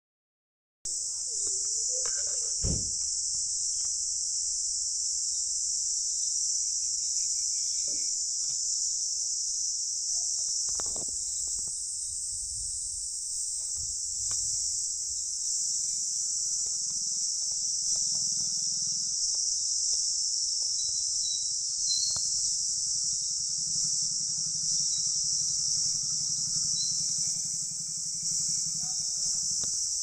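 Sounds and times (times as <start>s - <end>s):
shrill insect chorus: 0.9s - 30.0s.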